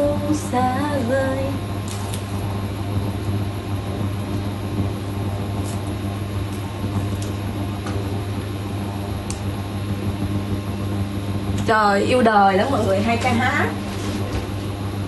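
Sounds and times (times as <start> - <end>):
appliance electrical hum: 0.0 - 15.0.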